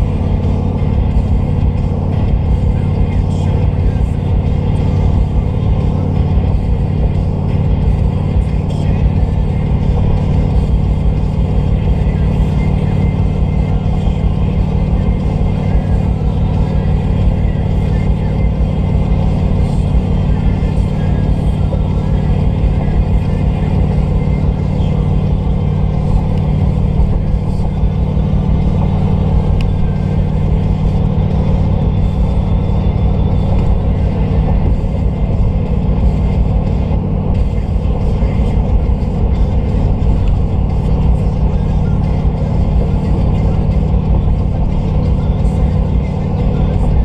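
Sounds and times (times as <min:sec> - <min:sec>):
engine hum: 0:00.0 - 0:47.0
tyre and road rumble: 0:00.0 - 0:47.0.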